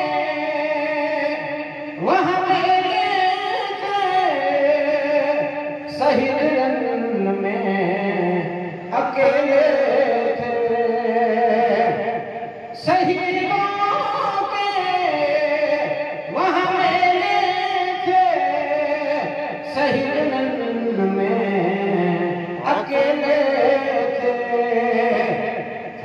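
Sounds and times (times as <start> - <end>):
man chanting into a microphone: 0.0 - 26.0.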